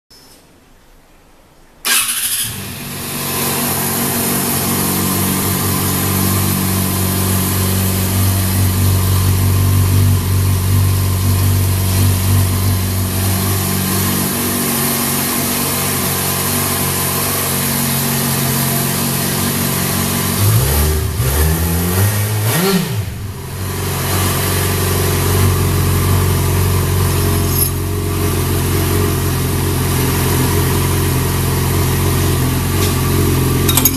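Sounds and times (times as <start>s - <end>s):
engine revving: 1.9s - 33.9s
motorcycle engine idling: 2.4s - 21.3s, 23.0s - 33.9s.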